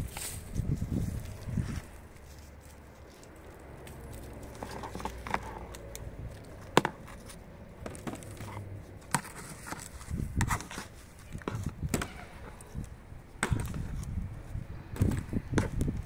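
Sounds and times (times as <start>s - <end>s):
hands digging through soil: 0.0s - 13.0s.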